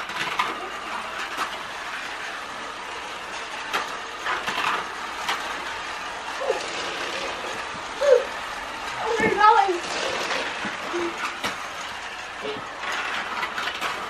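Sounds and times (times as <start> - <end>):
toy car motor whir: 0.0 - 14.0.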